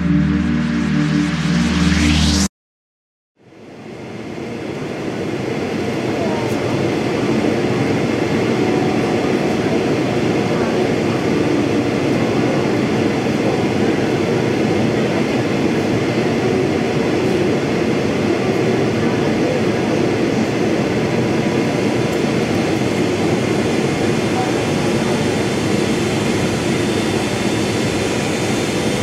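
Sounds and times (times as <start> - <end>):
airplane cabin noise: 3.8 - 29.0.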